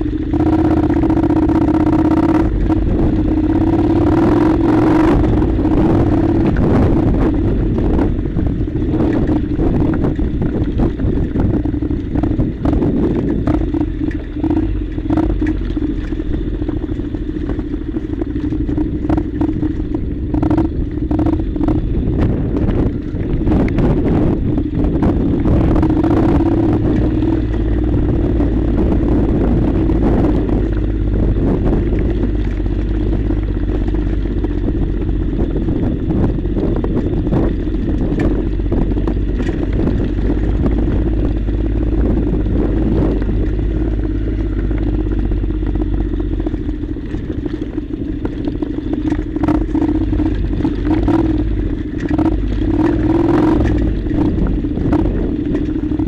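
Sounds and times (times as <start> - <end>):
gravel clattering under tyres: 0.0 - 56.0
motorcycle engine running: 0.0 - 56.0.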